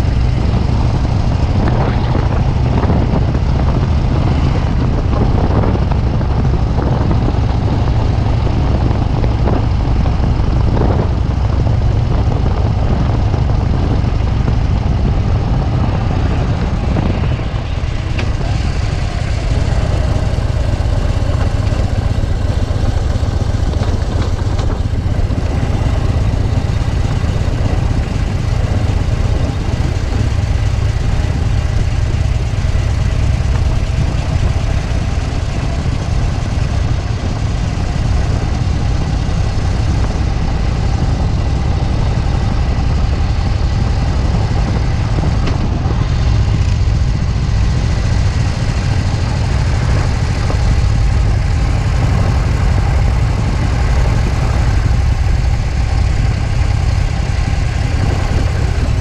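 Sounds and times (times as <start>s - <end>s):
motorcycle engine running: 0.0s - 59.0s
wind rush: 0.0s - 59.0s.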